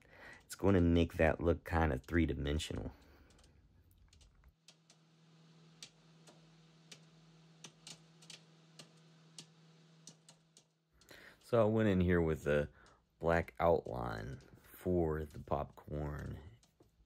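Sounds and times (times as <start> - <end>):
faint irregular clicks: 0.0 - 17.0.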